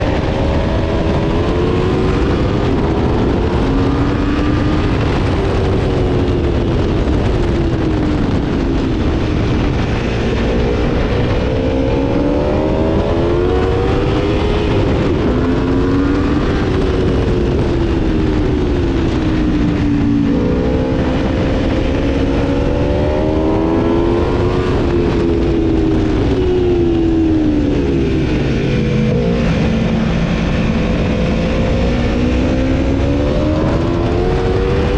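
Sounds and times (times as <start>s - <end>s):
heavy wind rush: 0.0s - 34.9s
motorcycle engine revving: 0.0s - 34.9s.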